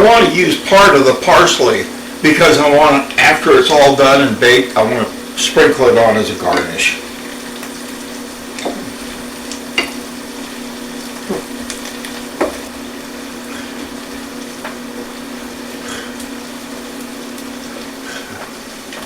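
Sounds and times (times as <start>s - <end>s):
steady low hum: 0.0s - 19.0s
vegetables sizzling in a pan: 0.0s - 19.0s.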